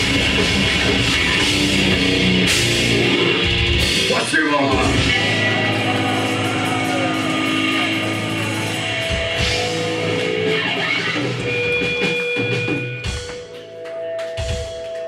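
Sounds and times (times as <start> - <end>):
distorted electric guitars: 0.0 - 15.0
drums: 0.0 - 15.0.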